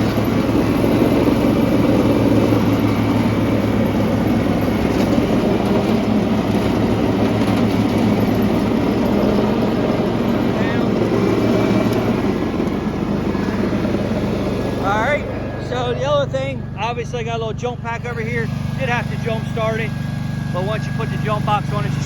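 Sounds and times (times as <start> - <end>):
lawn mower engine running: 0.0 - 22.0
mower blades spinning: 0.0 - 22.0.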